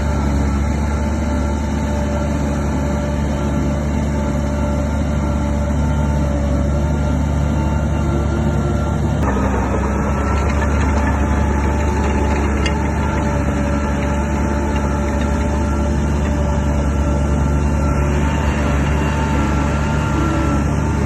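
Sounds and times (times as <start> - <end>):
bulldozer diesel engine droning: 0.0 - 21.0.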